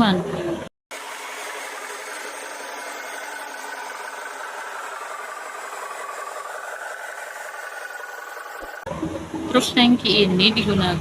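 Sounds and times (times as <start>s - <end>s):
engine-like running noise: 0.0s - 11.0s.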